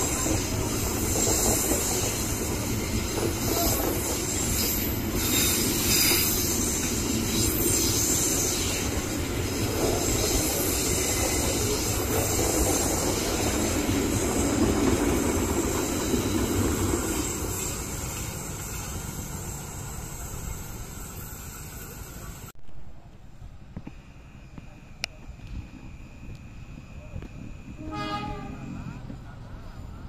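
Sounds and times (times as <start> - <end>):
train wheels squealing: 0.0 - 22.5, 25.7 - 30.0
train rumbling past: 0.0 - 30.0.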